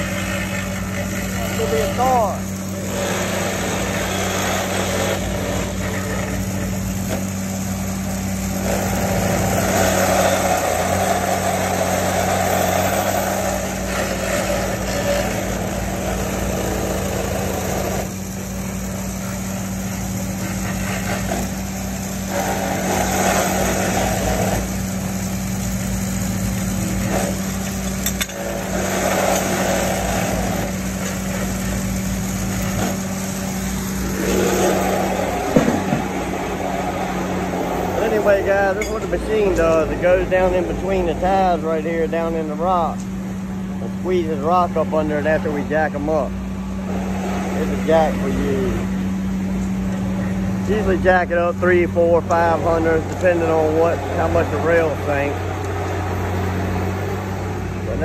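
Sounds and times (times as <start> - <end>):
loud vibrating noise: 0.0 - 58.0
machine engine running: 0.0 - 58.0.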